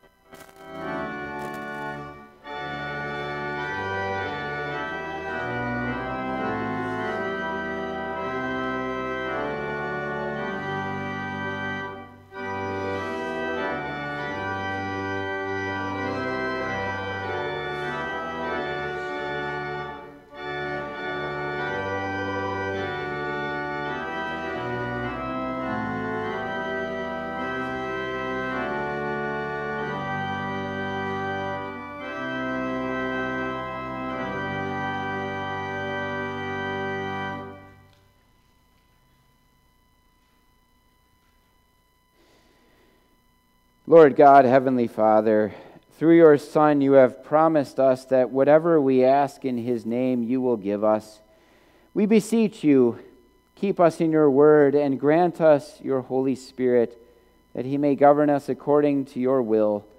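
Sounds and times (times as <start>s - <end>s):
church organ playing hymn: 0.0s - 43.2s, 43.8s - 59.9s.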